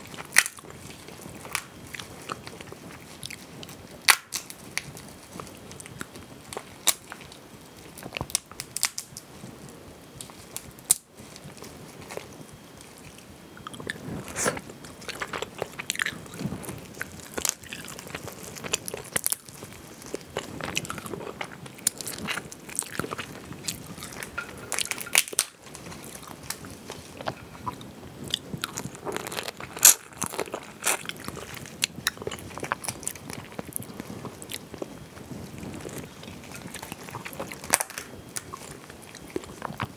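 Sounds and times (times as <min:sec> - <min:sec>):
crayfish shells cracking: 0:00.0 - 0:09.3, 0:10.1 - 0:39.9.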